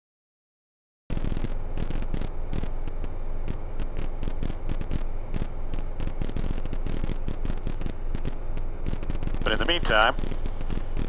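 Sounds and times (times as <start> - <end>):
aircraft cabin drone: 1.1 - 11.0
irregular crackles: 1.1 - 11.0.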